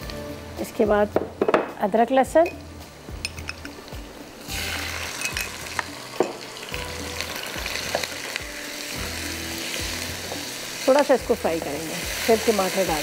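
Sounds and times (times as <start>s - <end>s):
food sizzling in a pan: 1.8s - 13.0s.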